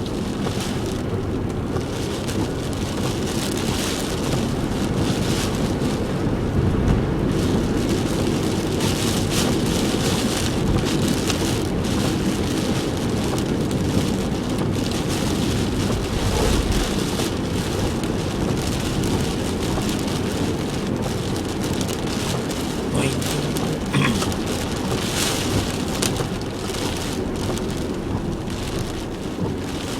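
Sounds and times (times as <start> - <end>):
heavy rain beating on a car: 0.0 - 29.9
road and engine rumble: 0.0 - 29.9.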